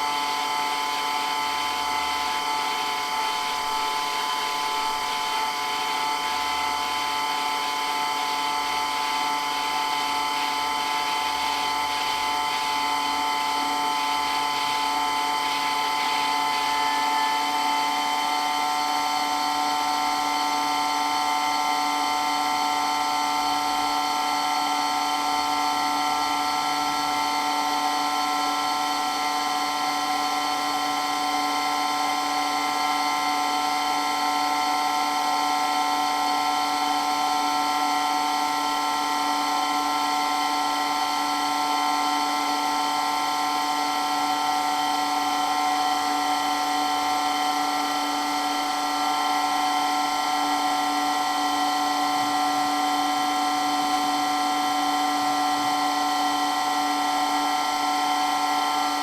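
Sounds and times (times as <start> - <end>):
electric water pump whine: 0.0 - 59.0.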